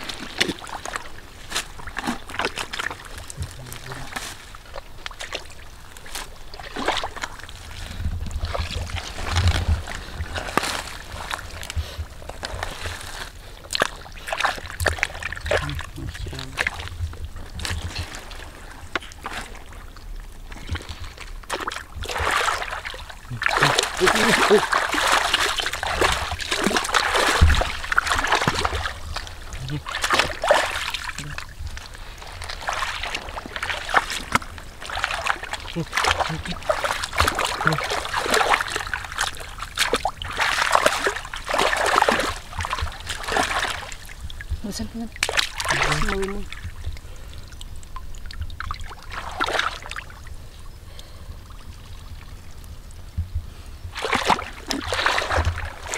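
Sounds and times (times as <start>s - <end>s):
hands splashing muddy water: 0.0s - 47.3s, 48.6s - 50.2s, 53.9s - 55.9s.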